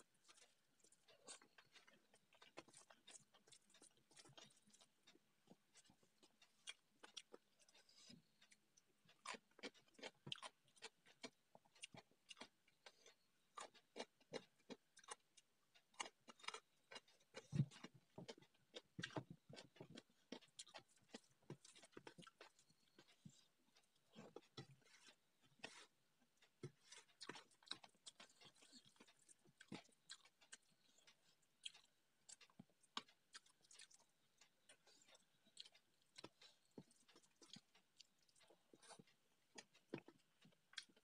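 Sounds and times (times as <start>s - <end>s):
chewing and lip smacks: 0.0s - 41.0s.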